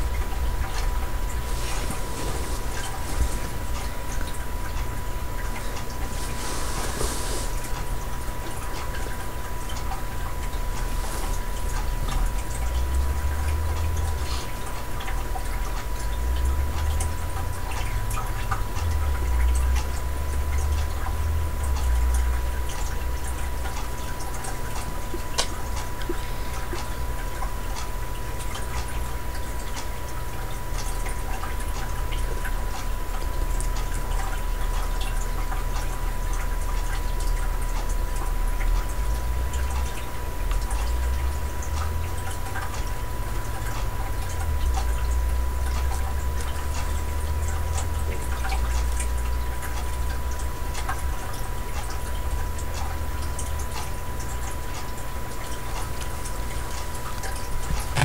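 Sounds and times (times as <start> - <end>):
background hiss and rumble: 0.0 - 58.0
small clicks and ticks: 0.0 - 58.0.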